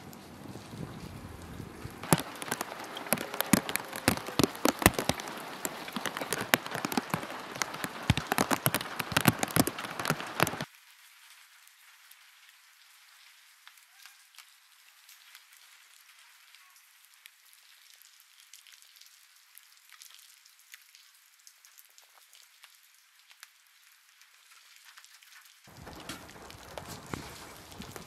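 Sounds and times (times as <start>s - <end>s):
rain dripping off metal roof: 0.0s - 28.0s.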